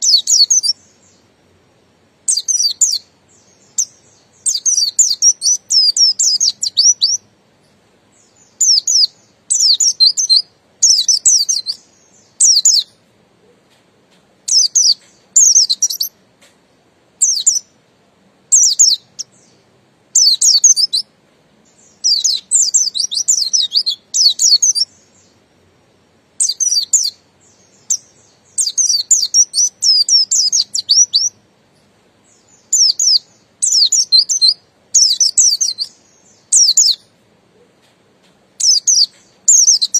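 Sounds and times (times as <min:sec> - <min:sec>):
bird twittering song: 0:00.0 - 0:01.6, 0:02.2 - 0:17.8, 0:18.5 - 0:39.9.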